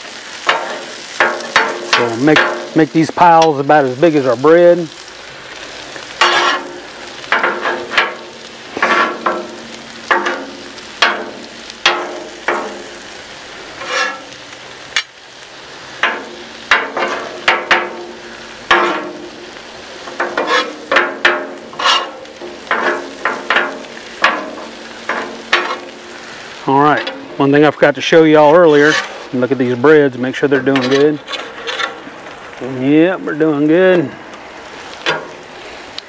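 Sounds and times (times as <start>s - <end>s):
food sizzling: 0.0s - 36.0s
spatulas scraping on griddle: 0.1s - 15.2s, 15.8s - 32.6s.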